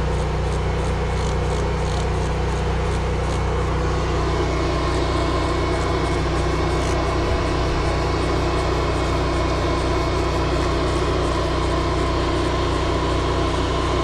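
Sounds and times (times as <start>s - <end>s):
pressure washer engine drone: 0.0s - 14.0s.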